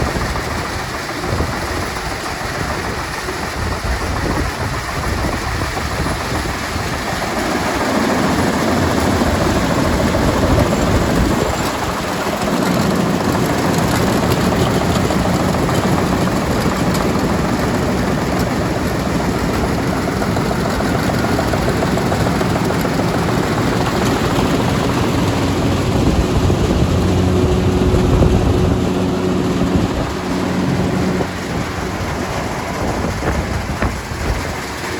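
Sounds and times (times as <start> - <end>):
farm machinery rumble and rattle: 0.0 - 34.9
low engine hum: 0.0 - 34.9.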